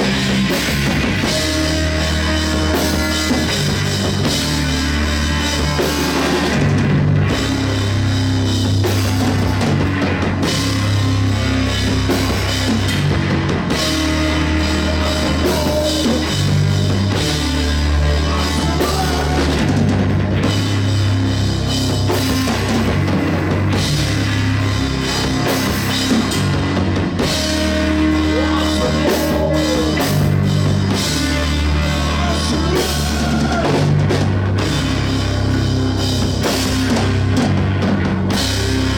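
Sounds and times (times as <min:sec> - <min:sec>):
heavy rock music: 0:00.0 - 0:38.9.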